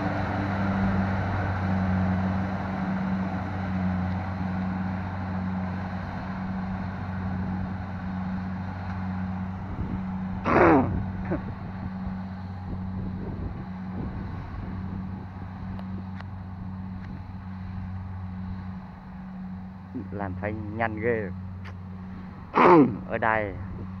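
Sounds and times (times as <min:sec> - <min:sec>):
diesel harvester engine humming: 0:00.0 - 0:24.0.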